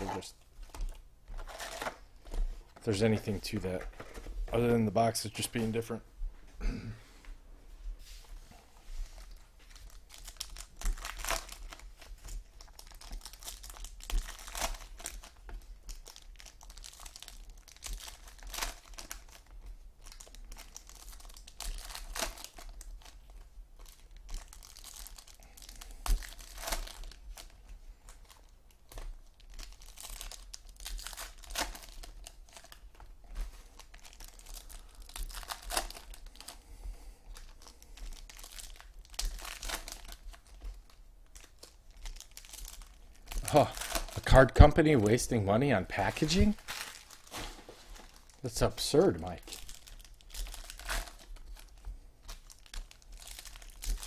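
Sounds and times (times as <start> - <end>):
foil wrappers crinkling and tearing: 0.0 - 4.2, 9.2 - 36.7, 37.3 - 54.0.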